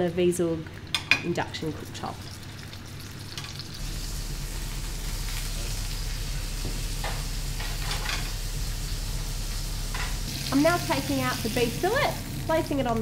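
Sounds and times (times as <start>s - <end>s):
meat sizzling in a frying pan: 2.2s - 13.0s.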